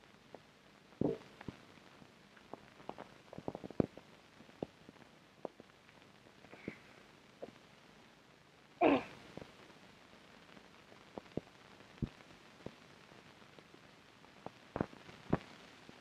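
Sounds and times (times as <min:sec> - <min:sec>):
film soundtrack hiss: 0:00.0 - 0:16.0.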